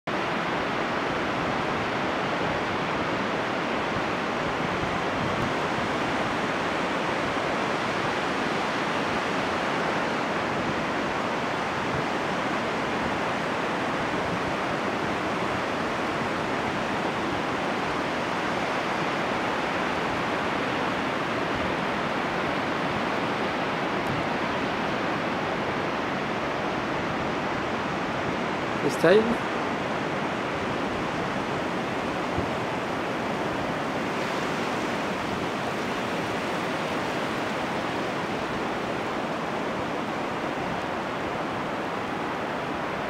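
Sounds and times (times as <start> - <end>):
surf washing on sandy beach: 0.1 - 43.0.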